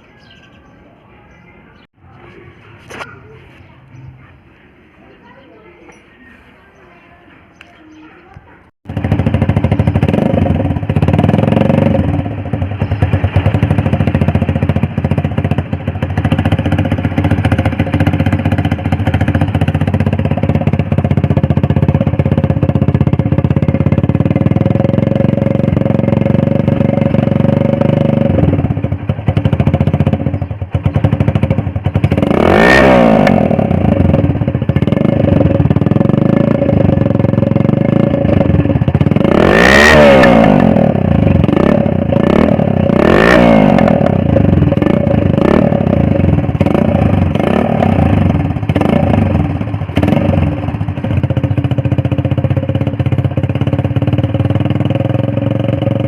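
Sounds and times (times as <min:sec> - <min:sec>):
two-stroke motorcycle engine running: 0:08.8 - 0:56.0.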